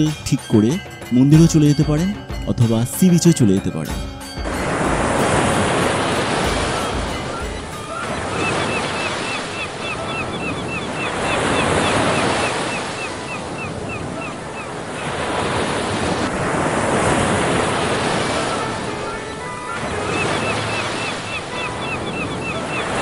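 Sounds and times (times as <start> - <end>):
waves breaking on beach: 3.9 - 23.0.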